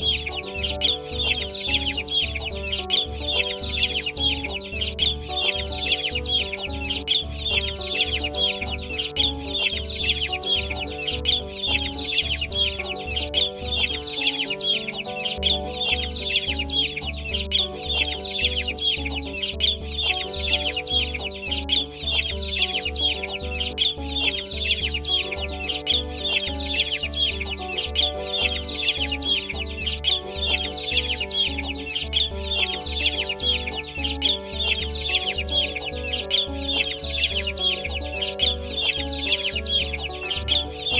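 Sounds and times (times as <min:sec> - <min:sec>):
background music with beat: 0:00.0 - 0:40.9
chicks peeping: 0:00.0 - 0:40.9.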